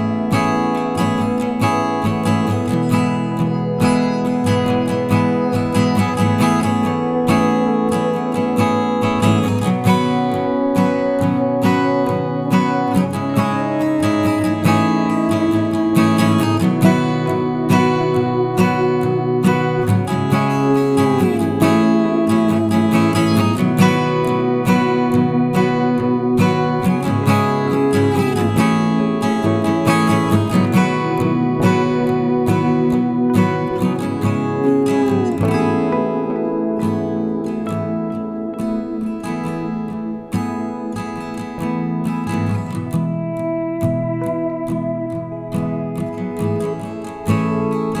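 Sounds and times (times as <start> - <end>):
acoustic guitar music: 0.0 - 48.0.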